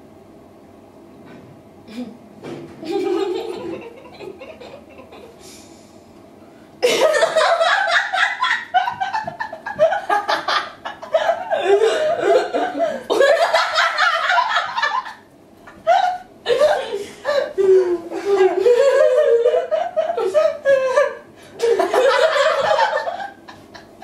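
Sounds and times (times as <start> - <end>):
women laughing: 2.8 - 5.4, 6.8 - 24.0.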